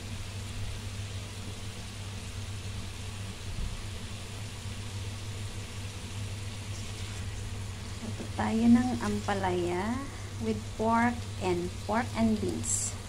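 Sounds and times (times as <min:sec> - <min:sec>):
constant low hum: 0:00.0 - 0:13.0
stir-fry sizzling in a pan: 0:00.0 - 0:13.0.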